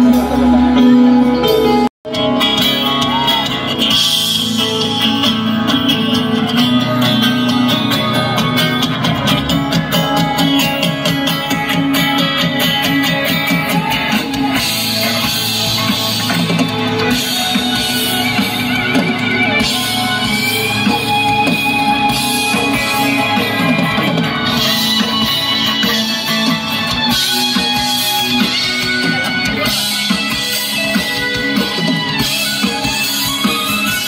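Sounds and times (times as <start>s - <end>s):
live band with guitars: 0.0s - 34.0s.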